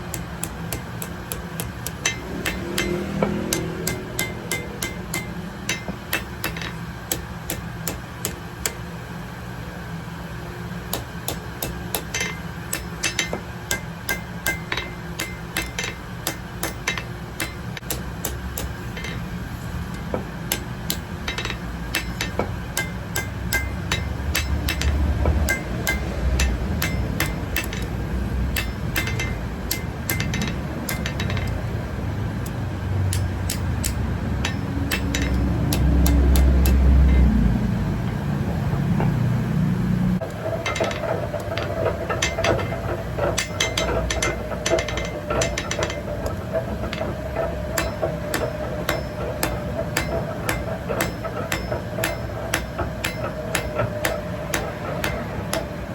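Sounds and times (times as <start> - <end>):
hammer striking metal on anvil: 0.0 - 8.9, 10.8 - 31.8, 32.4 - 38.2, 40.2 - 55.9.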